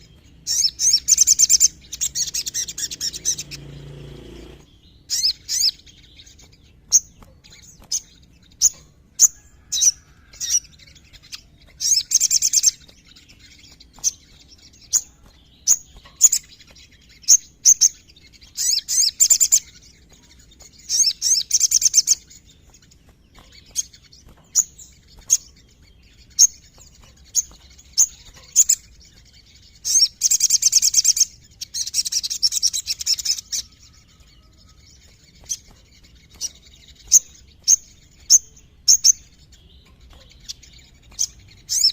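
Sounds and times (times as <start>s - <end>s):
sunbird singing: 0.0s - 41.9s.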